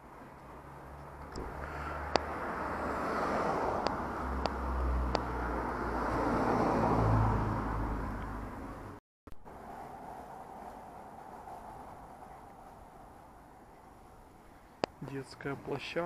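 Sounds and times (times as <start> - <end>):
car passing by: 0.6 - 13.6.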